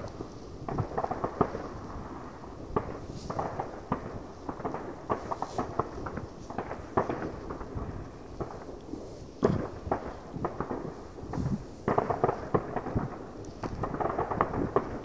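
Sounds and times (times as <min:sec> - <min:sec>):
crackling firework pops: 0:00.0 - 0:15.0
distant fireworks popping and banging: 0:00.0 - 0:15.0.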